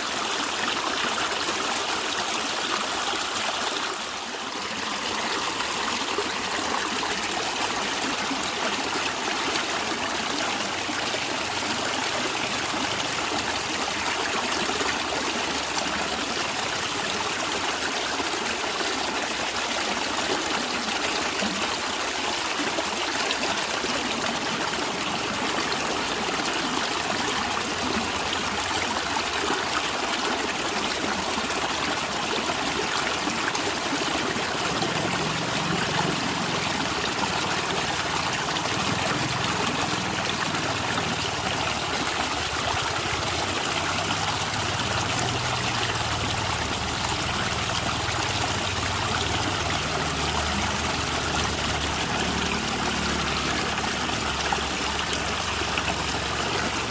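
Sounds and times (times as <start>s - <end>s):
running water gurgling: 0.0s - 56.9s.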